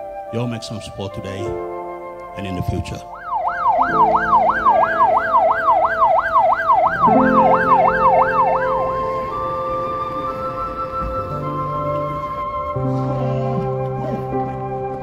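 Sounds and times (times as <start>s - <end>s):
soft background music: 0.0s - 15.0s
police siren yelping: 1.4s - 15.0s.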